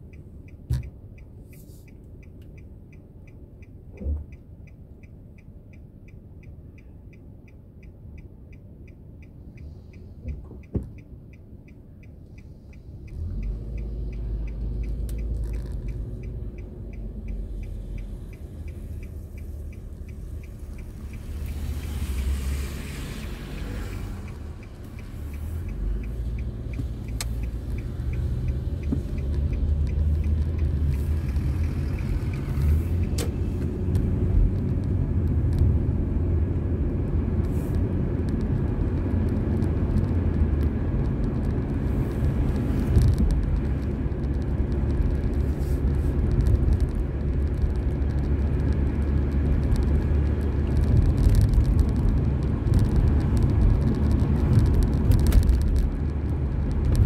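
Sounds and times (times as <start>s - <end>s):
car engine and road rumble: 0.0s - 57.0s
turn signal ticking: 0.0s - 57.0s.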